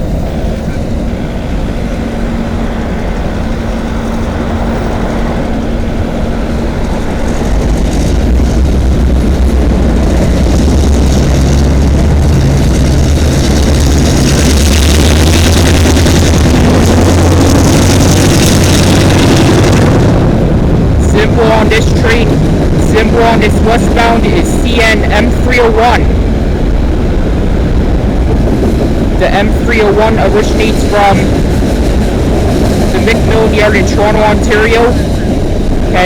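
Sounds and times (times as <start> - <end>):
diesel locomotive engine drone: 0.0 - 36.0
wheels rushing on rails: 0.0 - 36.0.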